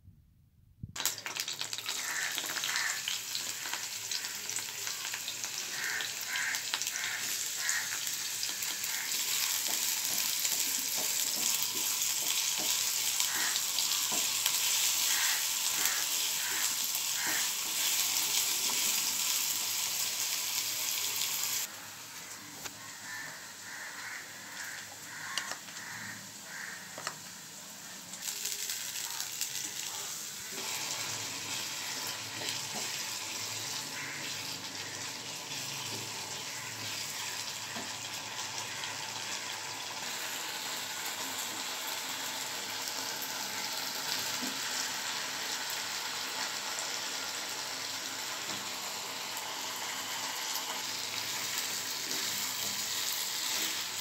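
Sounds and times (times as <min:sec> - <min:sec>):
spices sizzling in hot oil: 0:01.0 - 0:54.0.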